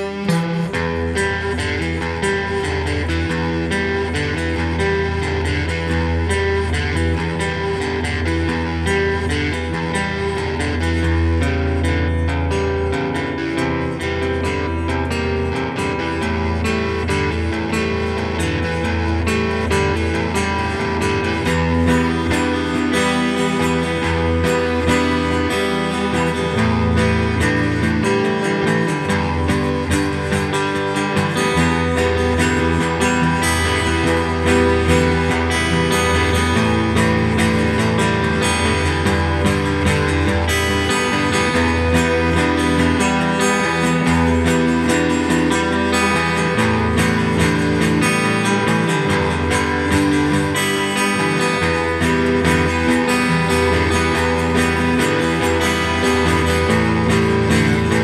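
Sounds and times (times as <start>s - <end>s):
acoustic guitars playing: 0.0s - 58.0s
rock band instrumental: 0.0s - 58.0s.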